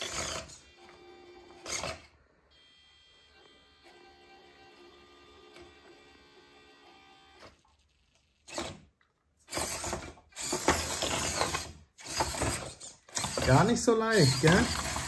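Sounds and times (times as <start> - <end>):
toy truck motor and gears whirring: 0.0 - 15.0.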